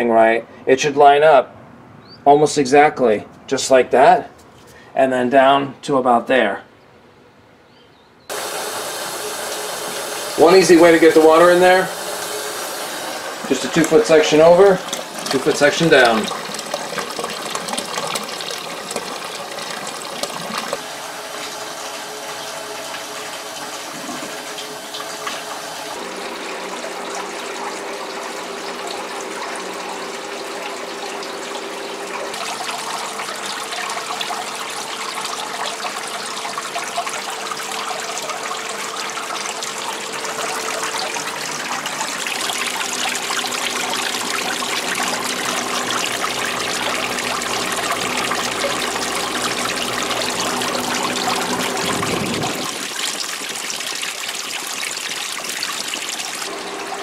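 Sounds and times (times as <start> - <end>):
water pouring into plastic tub: 8.3 - 57.0.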